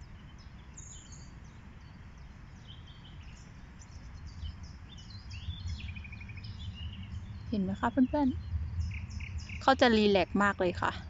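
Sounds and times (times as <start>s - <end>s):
birds chirping: 0.0s - 11.0s
low steady outdoor rumble: 0.0s - 11.0s.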